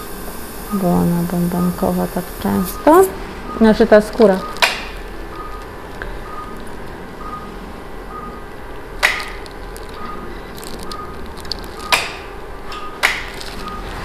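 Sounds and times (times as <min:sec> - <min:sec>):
patient monitor beeping: 0:00.0 - 0:14.0
steady hum: 0:00.0 - 0:14.0.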